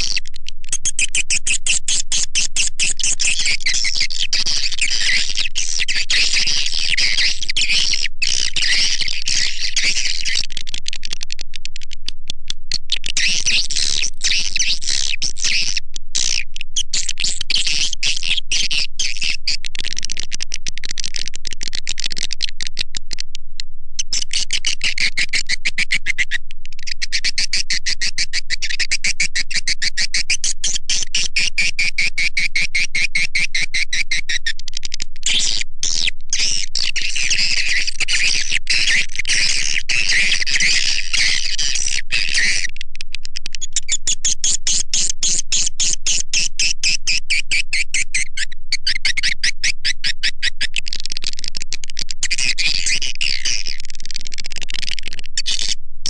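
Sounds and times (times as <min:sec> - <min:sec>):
recorded high-pitched bird chirps: 0:00.0 - 0:12.0, 0:12.7 - 0:23.2, 0:24.0 - 0:42.8, 0:43.4 - 0:55.8.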